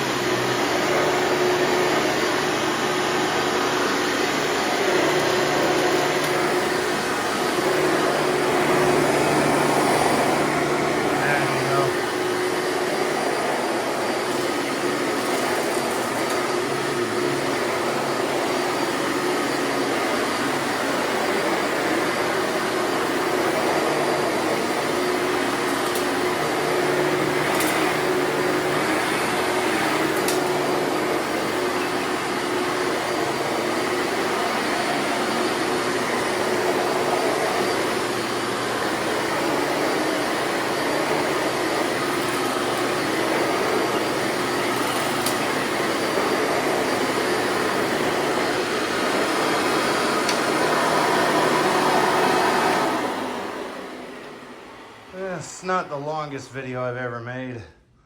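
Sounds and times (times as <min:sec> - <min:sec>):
upright vacuum cleaner running: 0:00.0 - 0:56.3.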